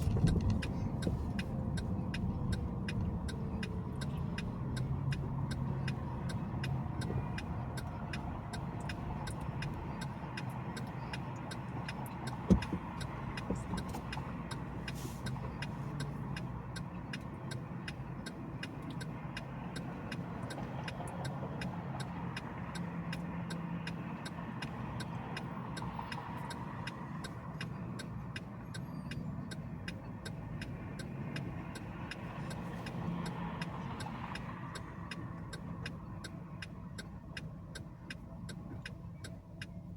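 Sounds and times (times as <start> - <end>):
car engine and road noise: 0.0 - 39.9
fast regular ticking: 0.1 - 39.7.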